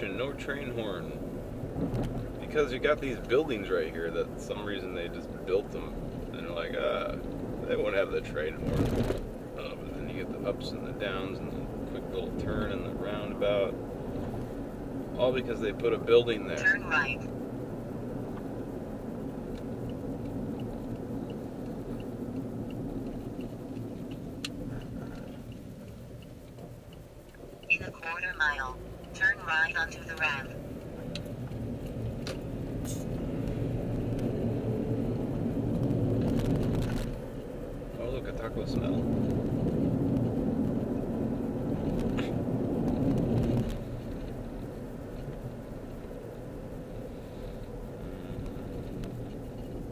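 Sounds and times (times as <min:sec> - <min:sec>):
car road and engine rumble: 0:00.0 - 0:49.9
turn signal ticking: 0:00.0 - 0:49.9.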